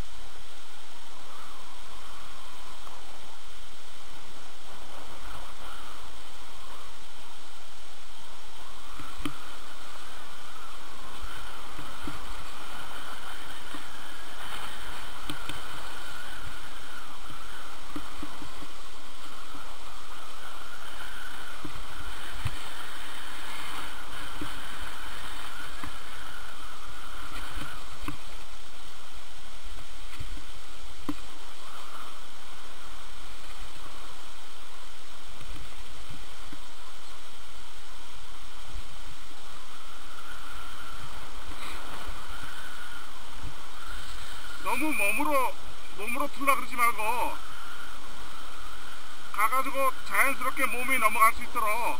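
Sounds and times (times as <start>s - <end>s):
wind on microphone: 0.0s - 51.9s
skis scraping over snow: 2.2s - 51.9s.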